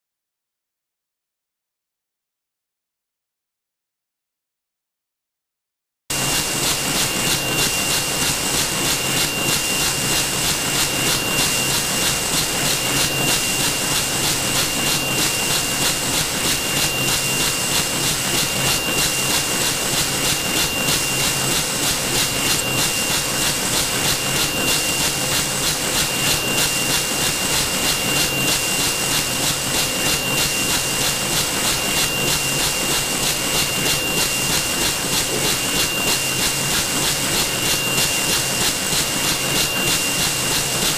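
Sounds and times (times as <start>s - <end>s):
high machine whine: 6.1s - 40.9s.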